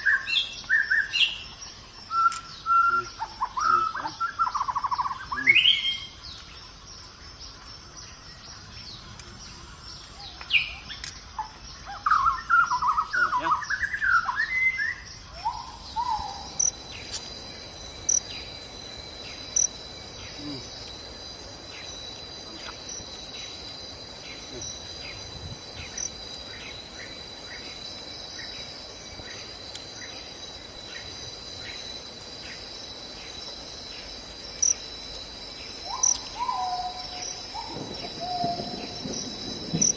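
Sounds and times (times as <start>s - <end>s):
birds chirping: 0.0s - 39.9s
pulsing insect trill: 0.0s - 39.9s.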